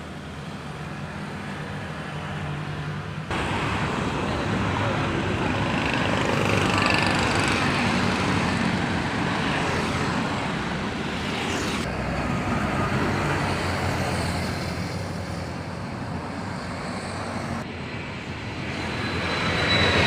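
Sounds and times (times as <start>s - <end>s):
jet engine roar overhead: 0.0s - 20.0s.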